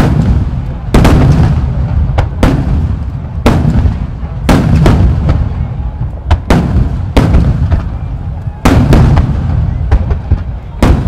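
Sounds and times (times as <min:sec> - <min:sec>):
firework shells booming: 0:00.0 - 0:11.0.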